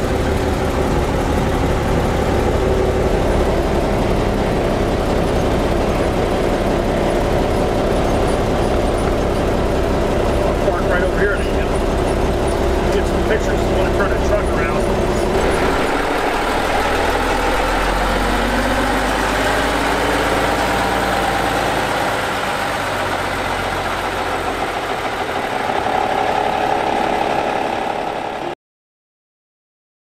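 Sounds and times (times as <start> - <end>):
diesel truck engine running: 0.0 - 28.6.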